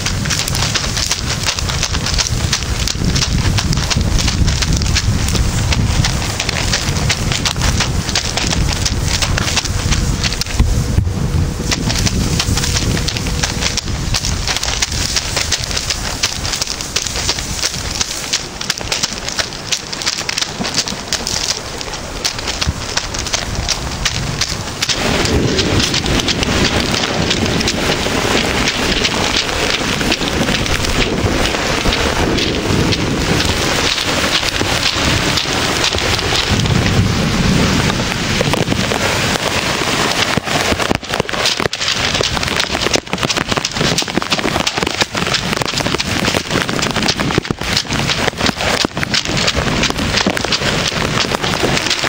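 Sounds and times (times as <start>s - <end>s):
heavy rain hissing: 0.0s - 52.0s
thunder rumble: 0.0s - 52.0s.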